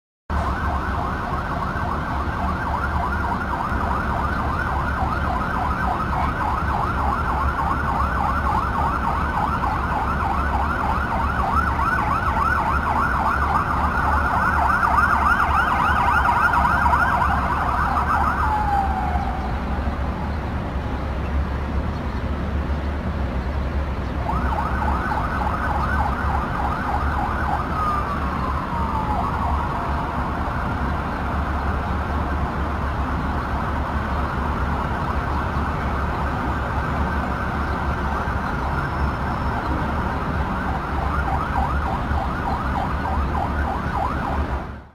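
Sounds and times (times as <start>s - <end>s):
emergency sirens warbling: 0.3s - 44.9s.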